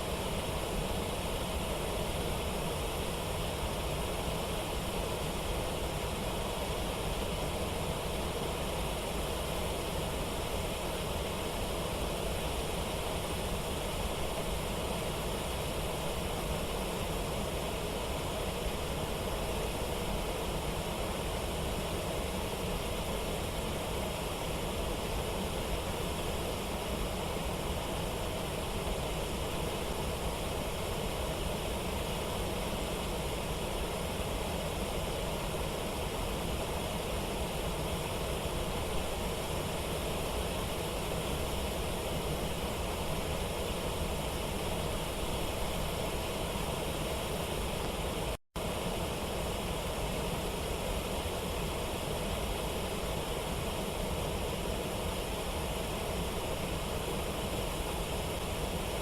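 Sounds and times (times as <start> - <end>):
rushing water of waterfall: 0.0 - 59.0.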